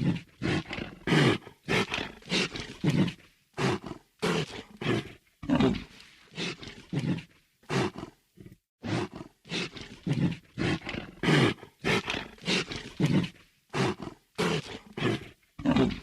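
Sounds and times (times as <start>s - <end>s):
creature growling raspy breaths: 0.0s - 16.0s.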